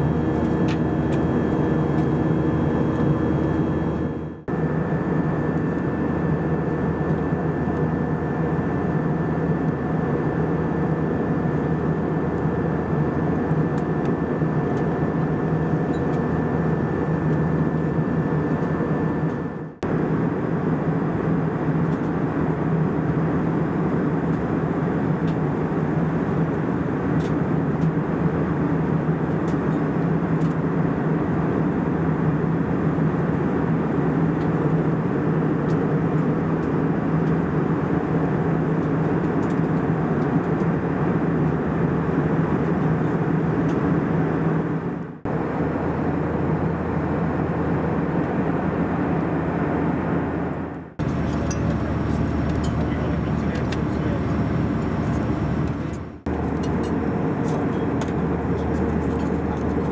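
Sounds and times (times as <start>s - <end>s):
jet engine drone: 0.0s - 59.9s.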